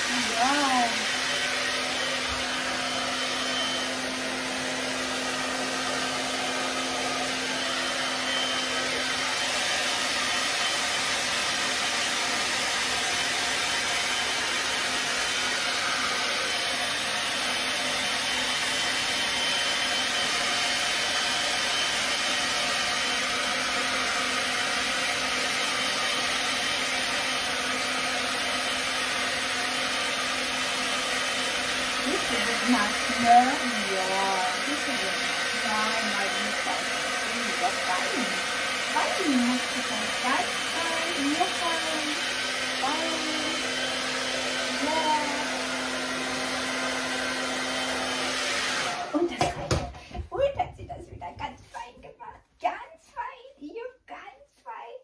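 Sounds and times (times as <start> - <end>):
hair dryer rushing hiss: 0.0 - 50.2.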